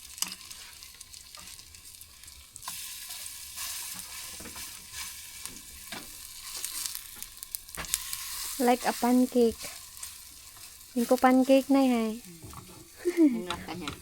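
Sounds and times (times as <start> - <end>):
batter frying in hot oil: 0.0 - 14.0.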